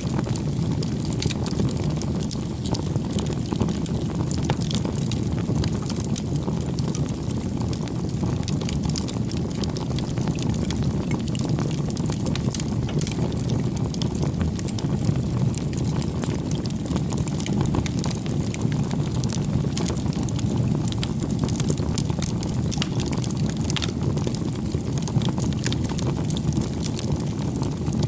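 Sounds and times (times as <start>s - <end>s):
wood crackling and popping: 0.0s - 28.0s
wood fire burning: 0.0s - 28.0s.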